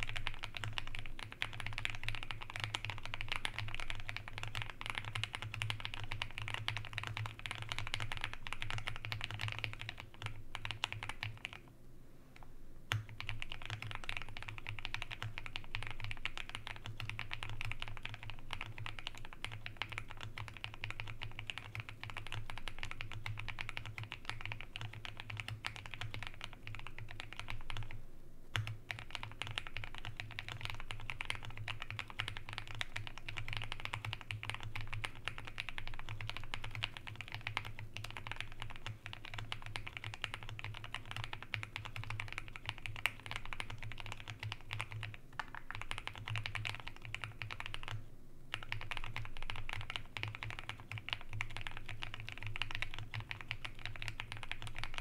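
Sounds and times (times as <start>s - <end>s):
mechanical keyboard typing: 0.0s - 11.6s, 12.9s - 55.0s.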